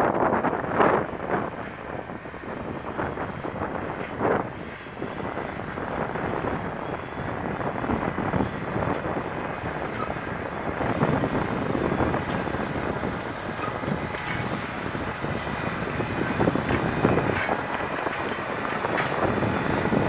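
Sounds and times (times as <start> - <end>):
tractor engine drone: 0.0 - 20.0
wind buffeting microphone: 0.0 - 20.0.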